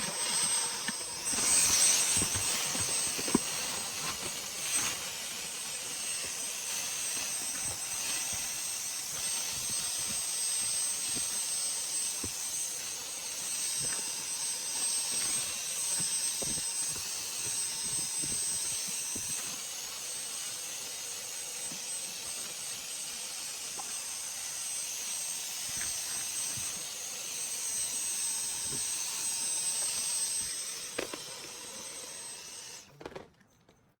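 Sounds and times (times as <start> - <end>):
vacuum cleaner whining: 0.0 - 33.9.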